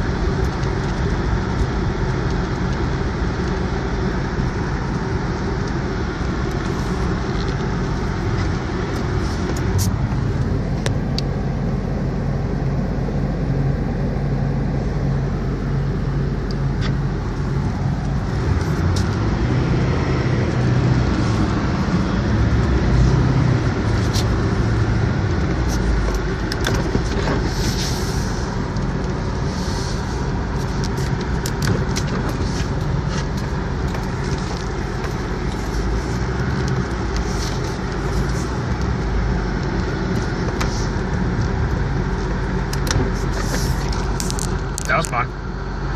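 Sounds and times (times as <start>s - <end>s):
vehicle engine drone: 0.0s - 45.9s.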